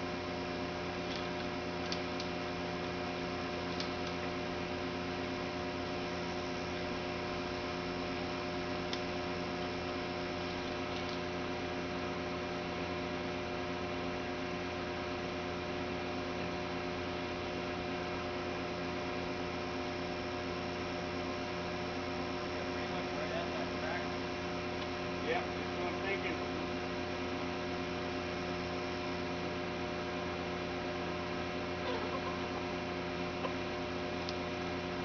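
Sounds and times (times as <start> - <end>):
engine humming steadily: 0.0 - 35.0.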